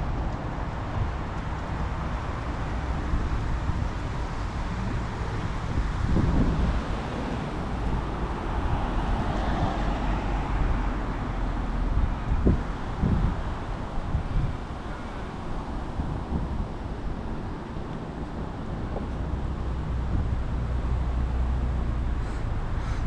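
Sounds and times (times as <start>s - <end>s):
road traffic noise: 0.0s - 23.0s
wind rumbling on microphone: 0.0s - 23.0s
passing vehicle: 0.1s - 23.0s.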